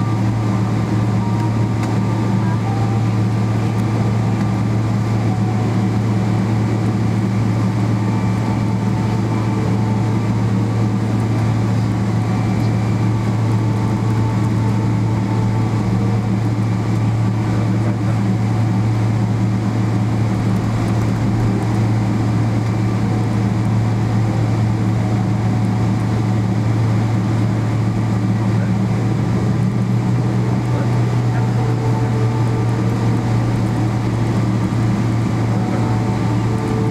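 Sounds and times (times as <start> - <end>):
airplane cabin engine drone: 0.0 - 36.9.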